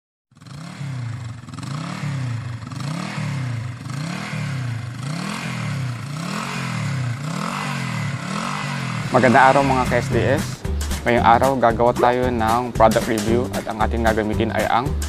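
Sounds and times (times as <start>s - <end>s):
engine revving: 0.3s - 15.0s.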